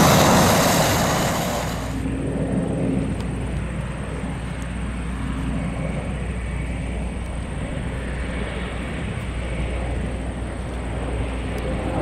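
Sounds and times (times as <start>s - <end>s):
turboprop aircraft flying overhead: 0.0s - 12.0s.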